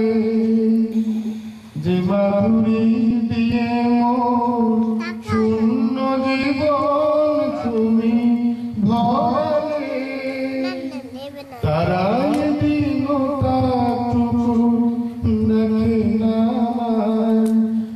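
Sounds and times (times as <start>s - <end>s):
man singing: 0.0s - 17.9s.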